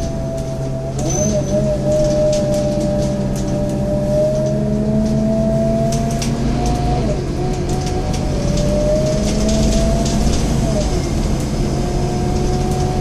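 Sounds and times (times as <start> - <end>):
body rattles and clicks: 0.0 - 13.0
bus diesel engine: 0.0 - 13.0
rising engine whine: 0.0 - 13.0.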